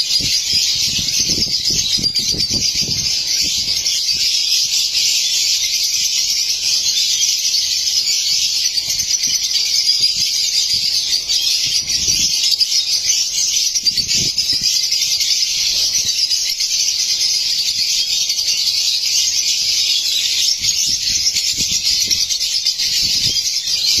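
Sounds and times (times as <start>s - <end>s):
lovebirds chattering: 0.0s - 24.0s.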